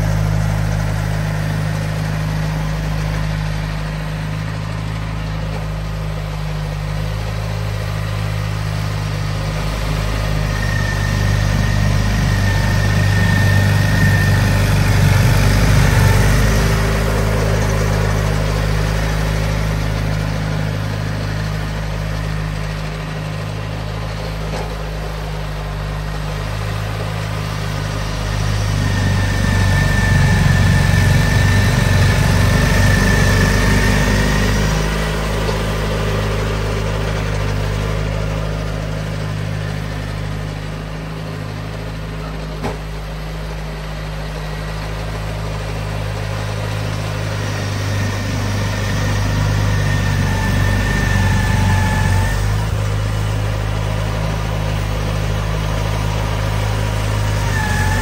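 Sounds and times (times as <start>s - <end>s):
high whine: 0.0s - 58.0s
tractor engine running: 0.0s - 58.0s.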